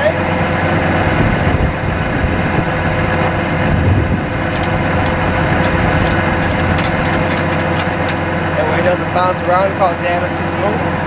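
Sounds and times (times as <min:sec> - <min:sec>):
truck engine idling: 0:01.8 - 0:11.0.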